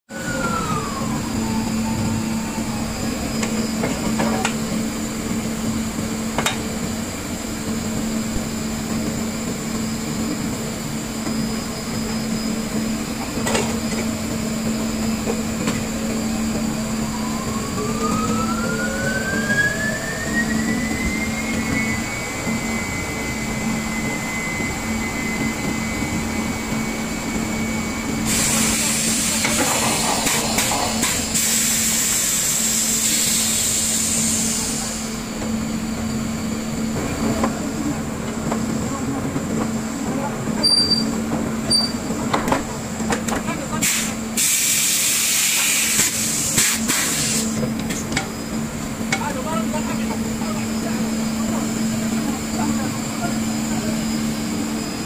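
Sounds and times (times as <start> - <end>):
hoisting machinery whine: 0.1 - 42.4, 47.5 - 55.0.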